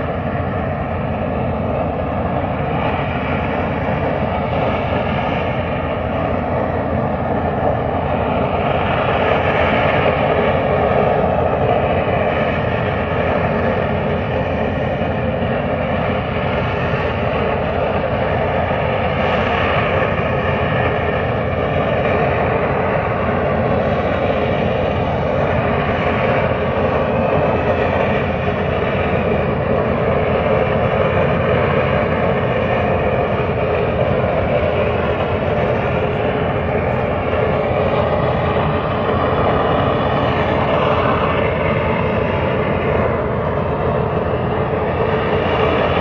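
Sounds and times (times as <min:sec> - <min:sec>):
loud steady rushing exhaust: 0:00.0 - 0:46.0.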